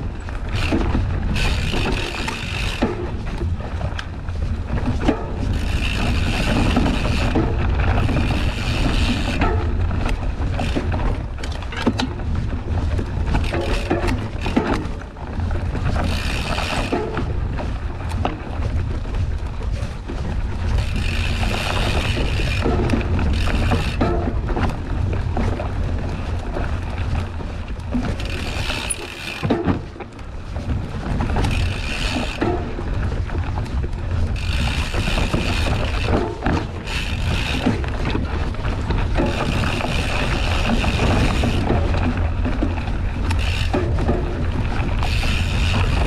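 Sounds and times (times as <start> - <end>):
bike rattling and knocking: 0.0 - 46.0
bike rumbling on dirt trail: 0.0 - 46.0.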